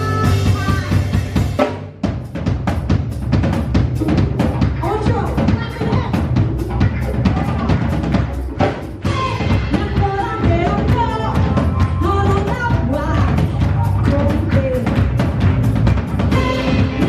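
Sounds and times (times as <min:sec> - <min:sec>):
drum kit beat: 0:00.0 - 0:17.0
live band music: 0:00.0 - 0:17.0.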